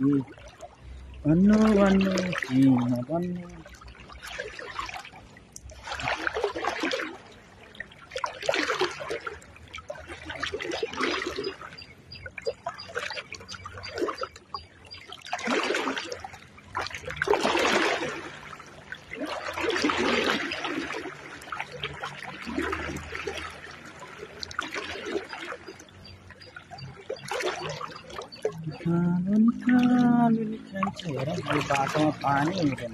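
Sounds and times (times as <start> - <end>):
wading through river water: 0.0 - 32.9.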